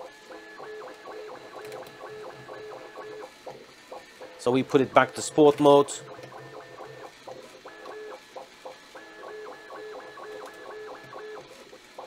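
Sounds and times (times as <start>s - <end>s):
printer stepper motors whining: 0.0s - 12.0s.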